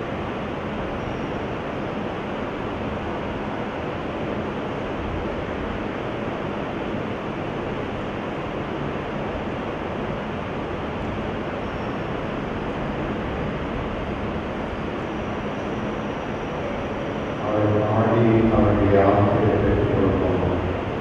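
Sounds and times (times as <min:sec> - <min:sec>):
steady rushing noise: 0:02.0 - 0:21.0.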